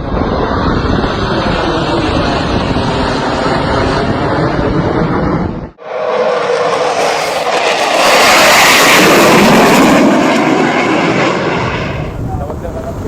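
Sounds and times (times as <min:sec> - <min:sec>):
combat aircraft passing: 0:00.0 - 0:13.0.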